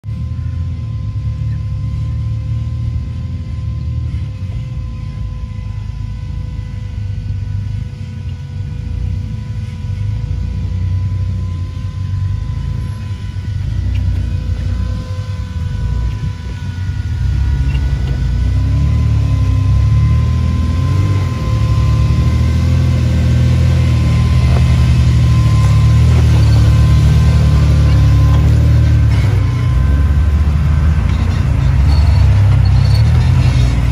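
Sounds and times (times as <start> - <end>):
off-road engines rumbling at low revs: 0.0 - 33.9.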